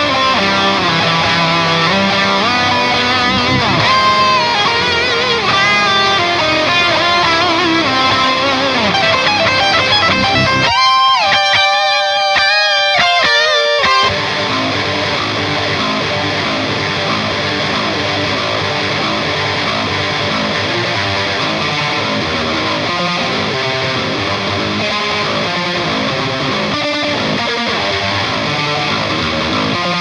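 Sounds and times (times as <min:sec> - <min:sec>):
band with distorted electric guitar: 0:00.0 - 0:30.0
lead guitar with bends: 0:00.0 - 0:30.0.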